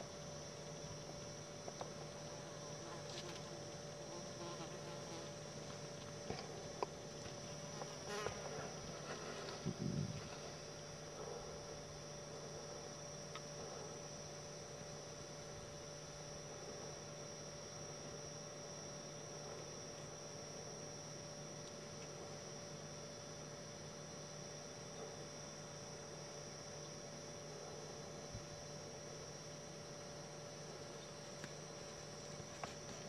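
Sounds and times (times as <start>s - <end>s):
recorder hum and hiss: 0.0s - 33.0s.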